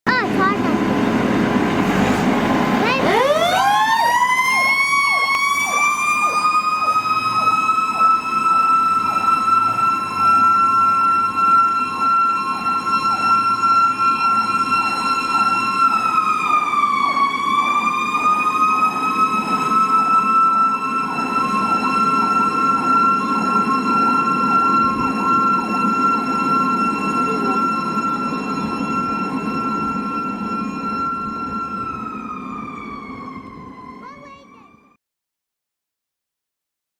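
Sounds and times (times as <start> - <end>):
truck engine: 0.1 - 33.8
siren wailing: 0.4 - 35.0
rapidly cycling siren tone: 2.8 - 34.9.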